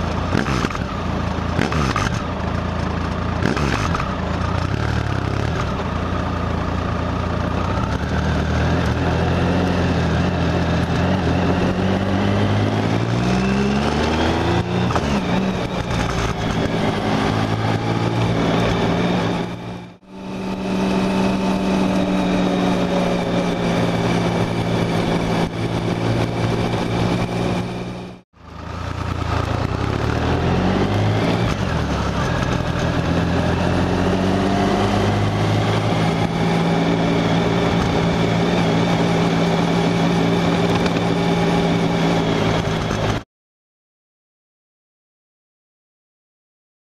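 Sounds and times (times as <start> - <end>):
motorcycle engine accelerating: 0.0 - 43.2
road noise: 0.0 - 43.2
wind: 0.0 - 43.2.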